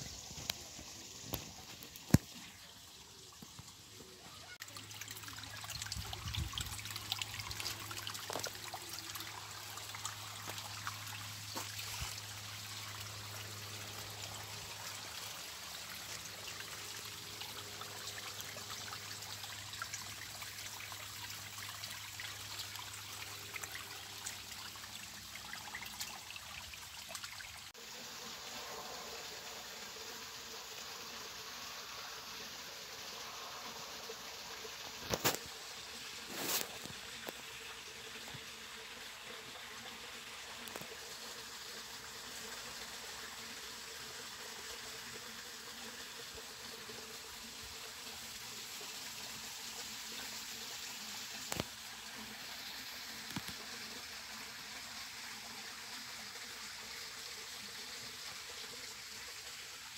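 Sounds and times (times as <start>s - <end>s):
water trickling over stones: 0.0s - 59.9s.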